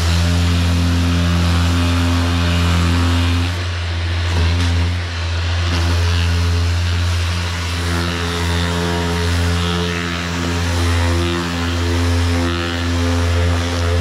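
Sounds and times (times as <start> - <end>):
power sander running: 0.0 - 14.0.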